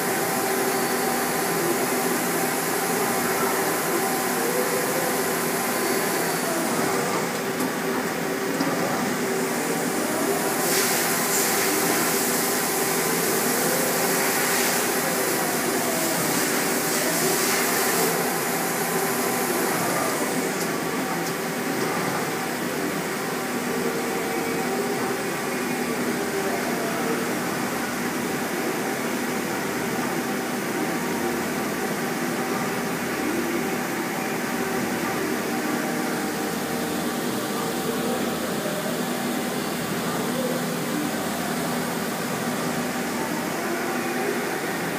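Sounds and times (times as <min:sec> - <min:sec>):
machine hum with steady tones: 0:00.0 - 0:44.9.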